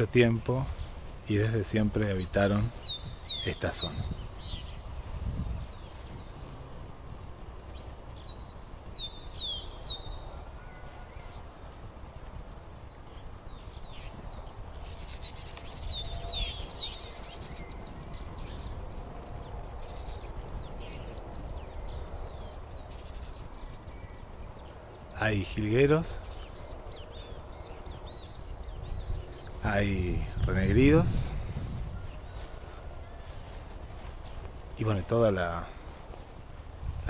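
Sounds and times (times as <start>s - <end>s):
low outdoor rumble: 0.0s - 37.0s
songbirds chirping: 0.0s - 37.0s.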